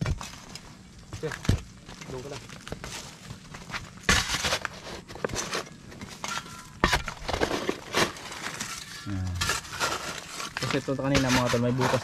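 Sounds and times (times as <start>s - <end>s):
shovel chopping and scraping dirt: 0.0s - 12.0s.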